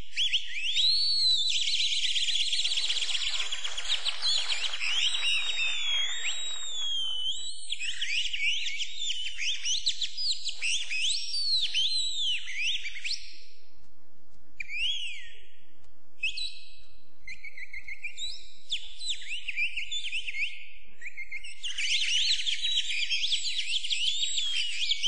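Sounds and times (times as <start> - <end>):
trilling whistles: 0.0 - 13.6, 14.6 - 15.6, 16.2 - 25.0
whistled bird-like chirps: 0.0 - 13.6, 14.6 - 15.6, 16.2 - 25.0.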